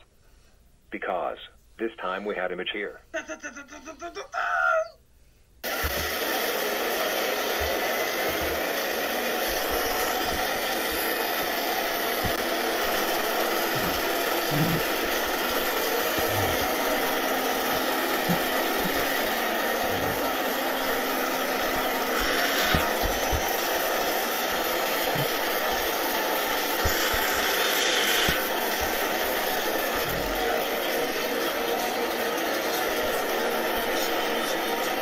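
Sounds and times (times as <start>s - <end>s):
loud static noise: 5.6s - 35.0s.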